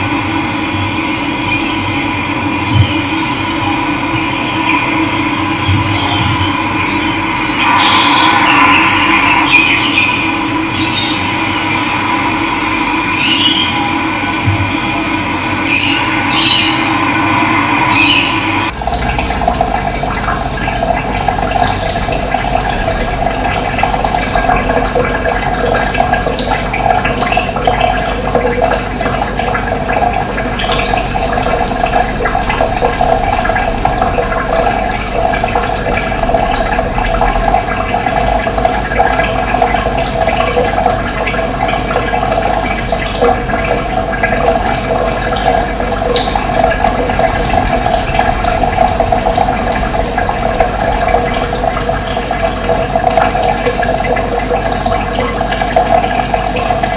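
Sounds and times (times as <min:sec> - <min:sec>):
running water rushing: 0:02.2 - 0:56.9.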